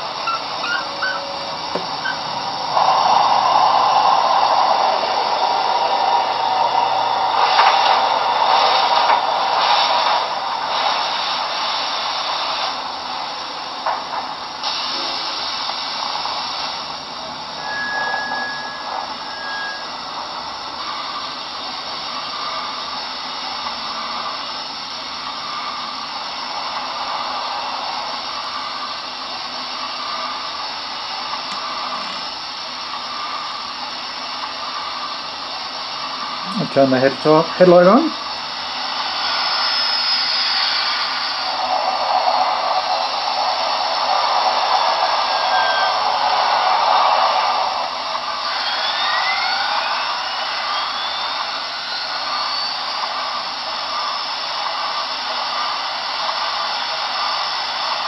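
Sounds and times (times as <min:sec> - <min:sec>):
steam hiss from small speaker: 0:01.4 - 0:58.0.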